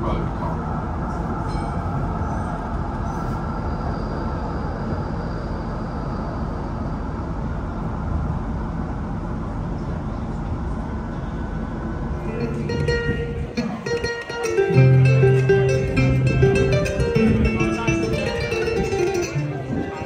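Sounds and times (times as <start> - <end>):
vehicle rumble in motion: 0.0 - 20.0.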